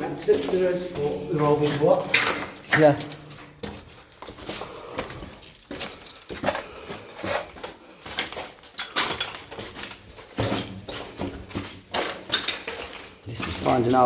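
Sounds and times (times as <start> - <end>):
footsteps on hard floor: 0.0 - 14.0.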